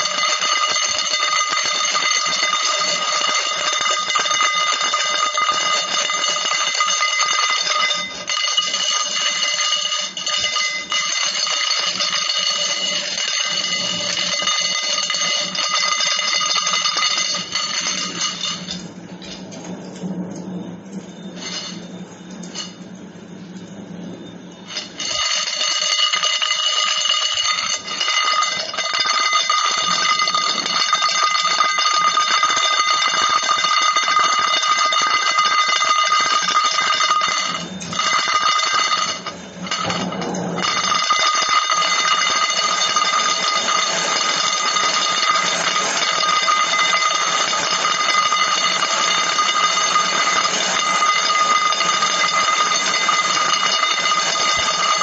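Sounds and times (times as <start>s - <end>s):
continuous ringing tone: 0.0s - 55.0s.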